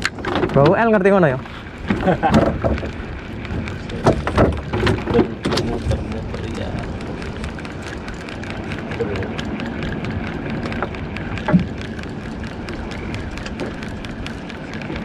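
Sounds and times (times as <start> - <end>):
water slapping boat hull: 0.0 - 15.0
wind on microphone: 1.3 - 15.0.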